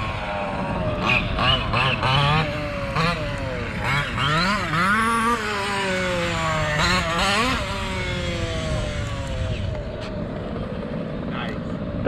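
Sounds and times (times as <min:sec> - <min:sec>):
model car engine running: 0:00.0 - 0:12.0.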